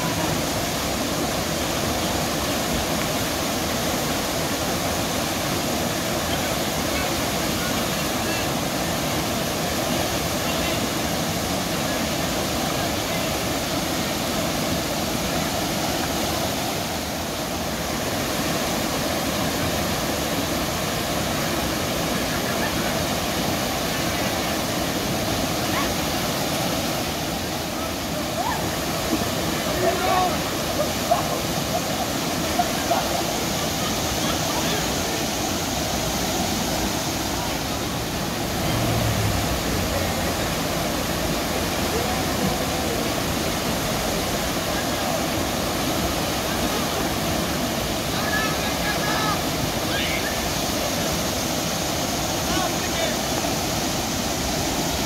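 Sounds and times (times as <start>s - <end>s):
river rapid rushing: 0.0s - 55.0s.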